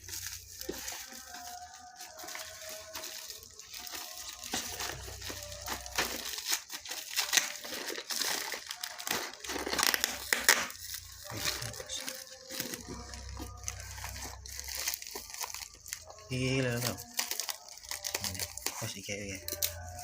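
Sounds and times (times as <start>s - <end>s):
packaging crinkling and tearing: 0.0s - 20.0s.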